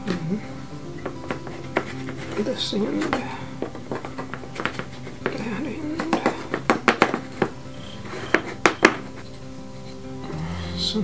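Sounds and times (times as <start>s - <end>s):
background music: 0.0s - 11.0s
wooden gears clacking: 1.0s - 9.9s.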